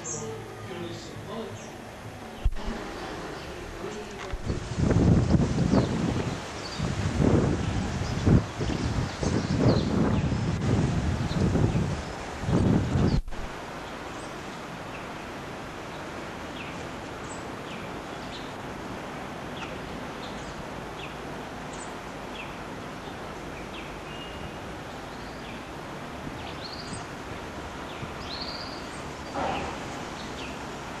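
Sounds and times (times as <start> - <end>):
steady background hiss: 0.0 - 31.0
small birds chirping: 2.4 - 10.6, 11.2 - 31.0.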